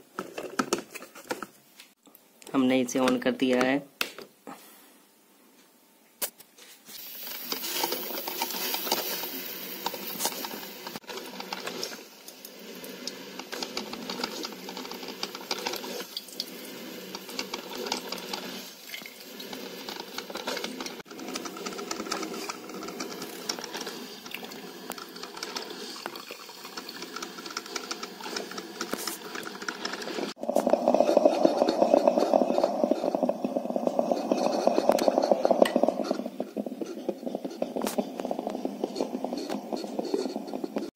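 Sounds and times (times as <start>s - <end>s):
coffee maker gurgling and sputtering: 7.0s - 40.9s.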